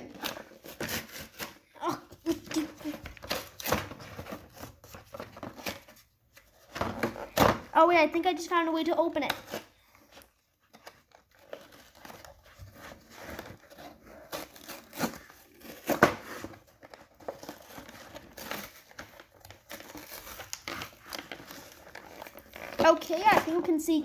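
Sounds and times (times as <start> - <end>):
cardboard and paper tearing: 0.0 - 24.0.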